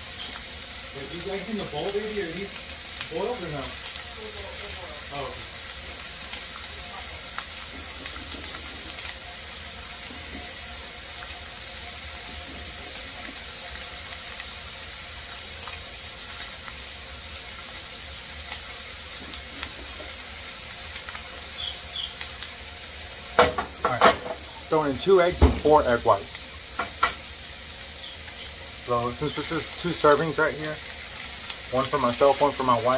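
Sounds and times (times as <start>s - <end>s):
faint crackles: 0.0s - 32.9s
food sizzling in a frying pan: 0.0s - 32.9s.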